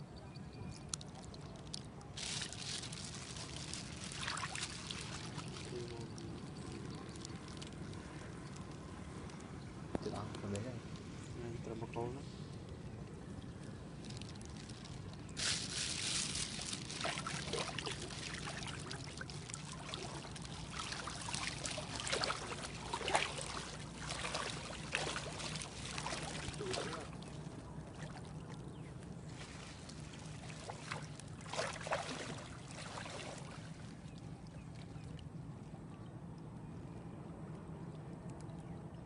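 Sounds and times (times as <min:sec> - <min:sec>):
water splashing and trickling: 0:00.6 - 0:11.0, 0:11.8 - 0:39.0.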